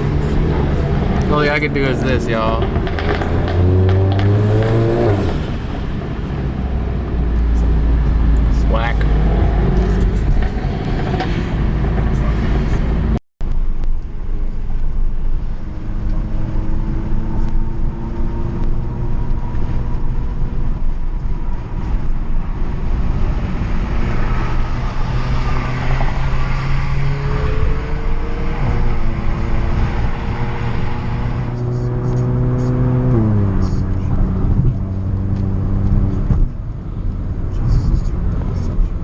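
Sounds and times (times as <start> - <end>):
car engine cruising: 0.0 - 13.2, 13.8 - 39.0
tyre and road noise: 0.0 - 39.0.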